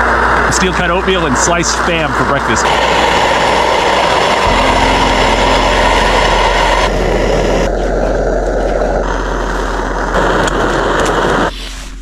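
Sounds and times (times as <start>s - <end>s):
camp stove burner hissing: 0.0s - 12.0s.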